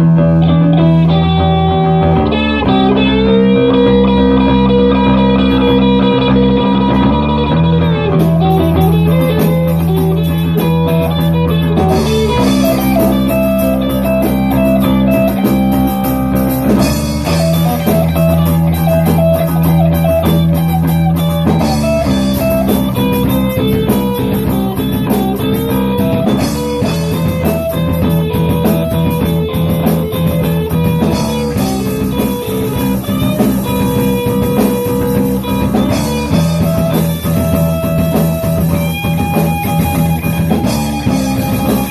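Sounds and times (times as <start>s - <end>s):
bass line: 0.0s - 41.9s
guitar chords and melody: 0.0s - 41.9s.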